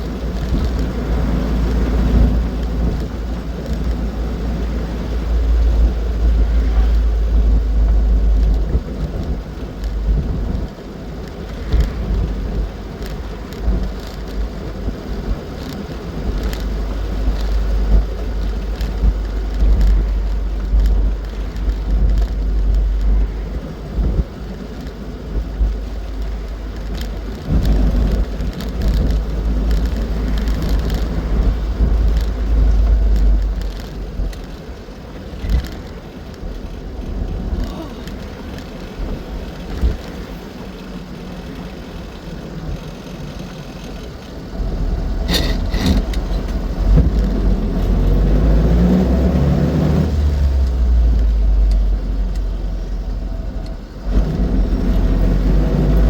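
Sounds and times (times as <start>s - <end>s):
car engine running: 0.0s - 56.0s
wind and road rumble: 0.0s - 56.0s.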